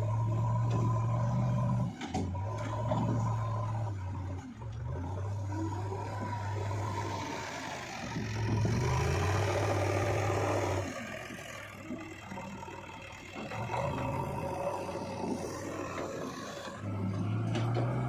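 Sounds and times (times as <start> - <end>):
heavy diesel engine revving: 0.0 - 18.0.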